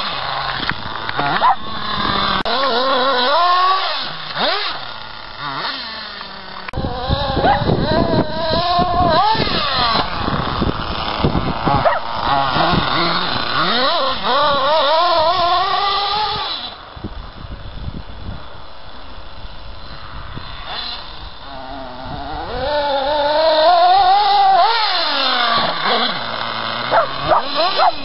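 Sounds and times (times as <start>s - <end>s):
small model engine revving: 0.0s - 28.0s.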